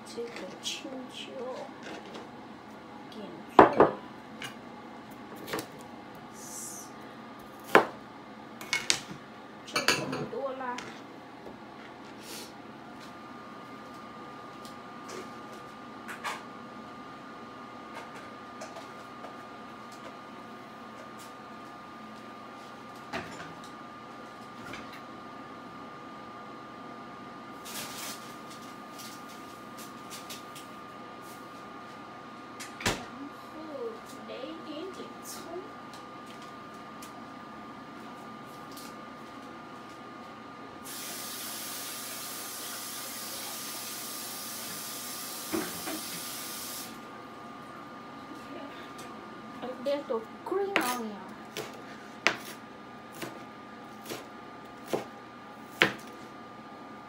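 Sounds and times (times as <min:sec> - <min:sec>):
kitchen background hum: 0:00.0 - 0:57.0.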